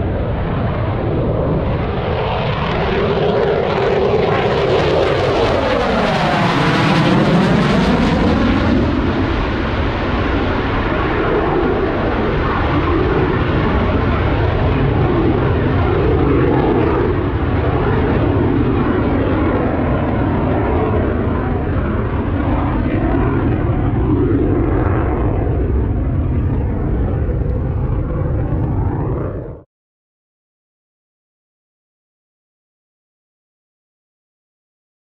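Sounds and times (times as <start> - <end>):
airplane engine overhead: 0.0 - 29.7.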